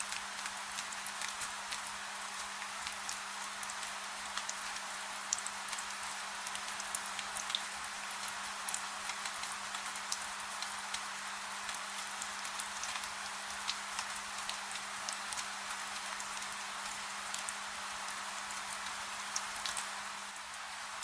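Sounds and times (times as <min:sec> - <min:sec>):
gentle rain: 0:00.0 - 0:21.0.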